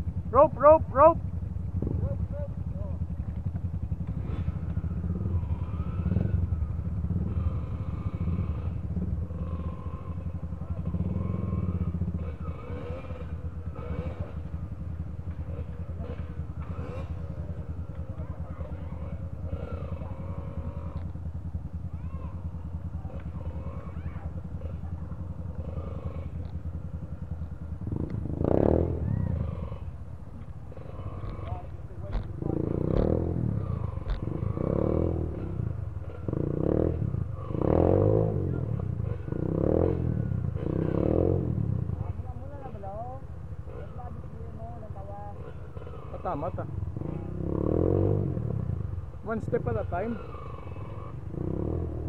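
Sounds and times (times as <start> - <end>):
dirt bike engines idling: 0.0 - 52.0.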